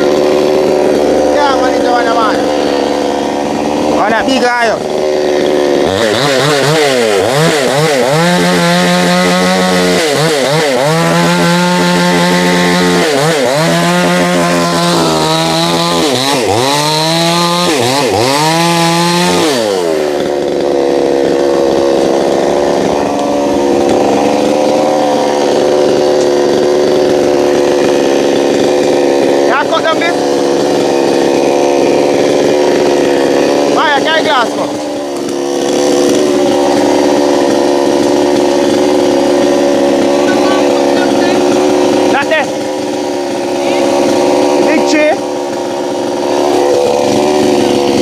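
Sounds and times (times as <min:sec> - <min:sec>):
chainsaw cutting wood: 0:00.0 - 0:48.0.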